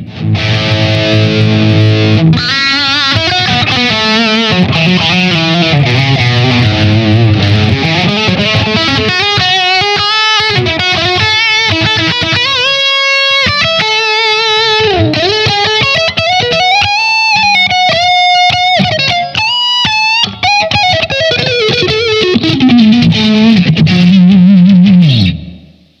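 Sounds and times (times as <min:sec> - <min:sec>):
electric guitar lead line: 0:00.0 - 0:26.0.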